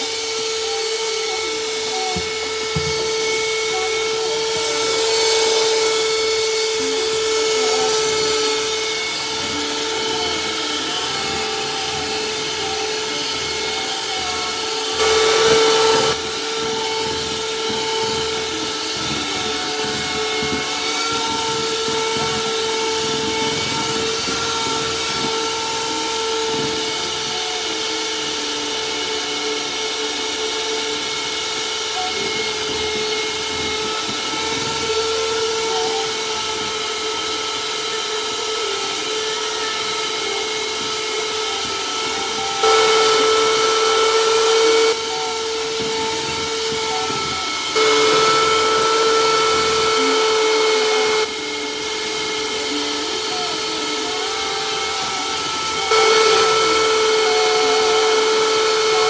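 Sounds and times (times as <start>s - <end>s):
electric hand mixer running: 0.0s - 59.0s.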